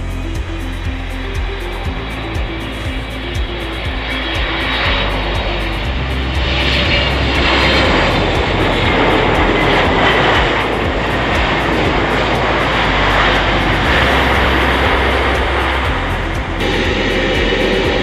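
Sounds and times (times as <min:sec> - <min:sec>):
airliner jet engines rushing: 0:00.0 - 0:18.0.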